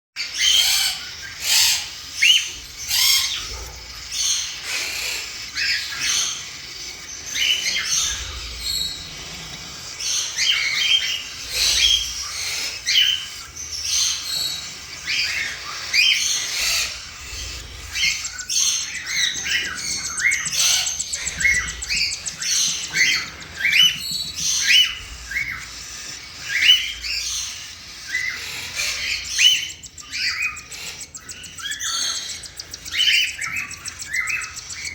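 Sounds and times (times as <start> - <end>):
cockatiel chicks begging calls: 0.2 - 34.9.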